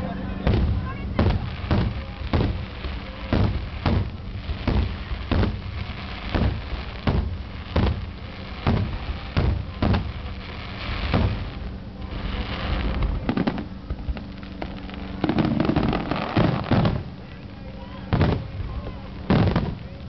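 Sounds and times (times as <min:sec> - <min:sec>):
firework shells bursting: 0:00.4 - 0:17.4, 0:18.0 - 0:20.0.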